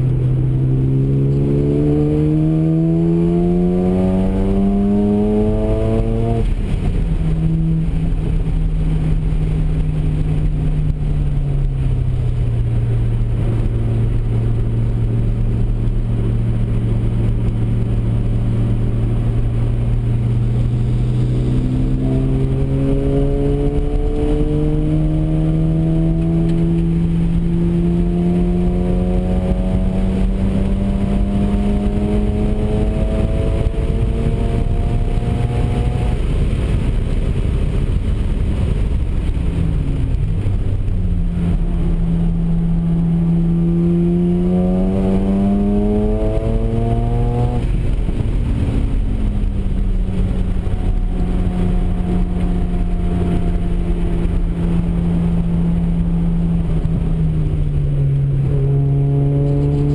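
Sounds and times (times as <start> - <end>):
rotary engine from inside car: 0.0 - 59.9.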